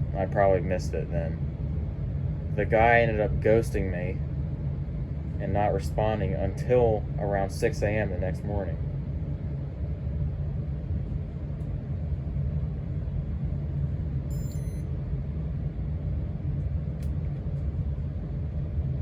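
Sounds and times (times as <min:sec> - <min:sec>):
ceiling fan rumble: 0:00.0 - 0:19.0.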